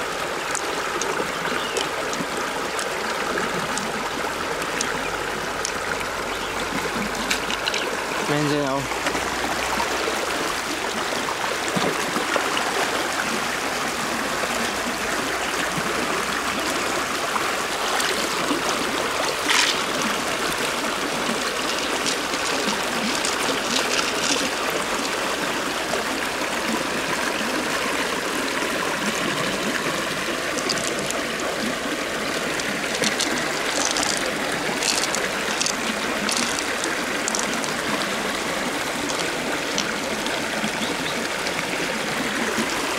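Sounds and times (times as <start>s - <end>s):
flowing stream water: 0.0s - 42.9s.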